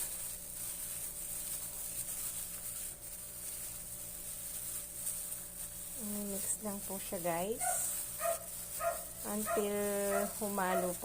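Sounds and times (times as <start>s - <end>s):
soft rubbing of food in bowl: 0.0s - 11.0s.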